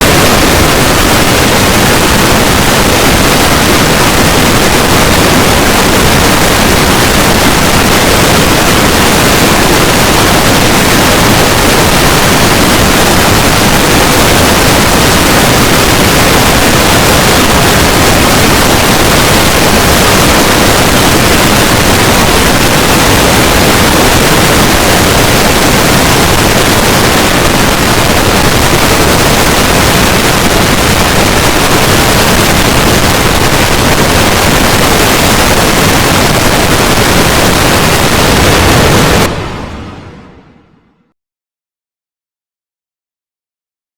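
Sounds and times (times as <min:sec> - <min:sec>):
loud static noise: 0:00.0 - 0:41.1.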